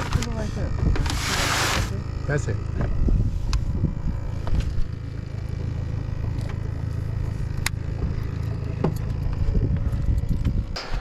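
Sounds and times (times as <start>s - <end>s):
boat motor running: 0.0s - 10.8s.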